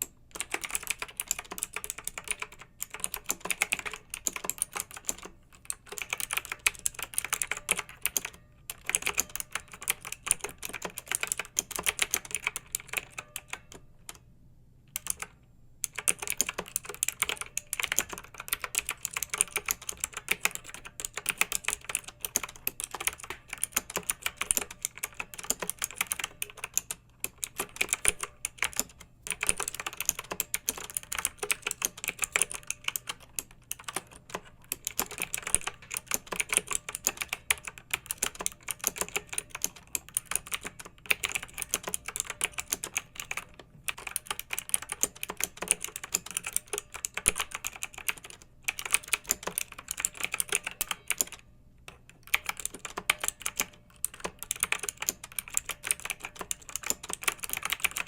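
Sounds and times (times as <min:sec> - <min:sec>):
mechanical keyboard typing: 0:00.0 - 0:14.2, 0:14.9 - 0:58.0.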